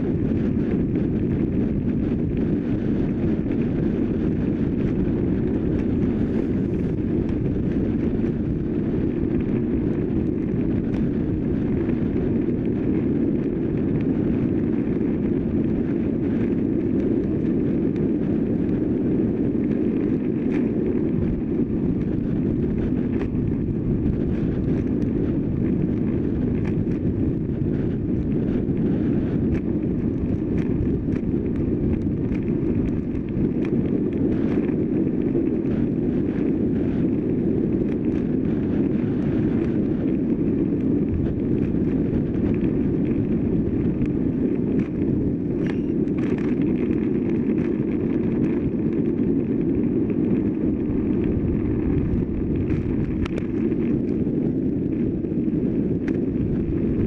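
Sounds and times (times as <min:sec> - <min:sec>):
bicycle tyre and road rumble: 0:00.0 - 0:57.0
wind rushing over microphone: 0:00.0 - 0:57.0.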